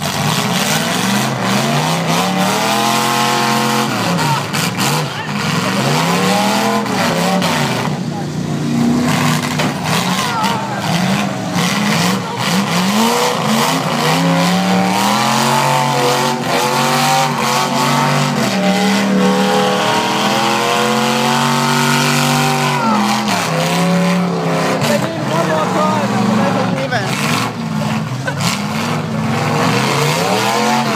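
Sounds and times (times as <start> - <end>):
car engines revving: 0.0 - 30.9.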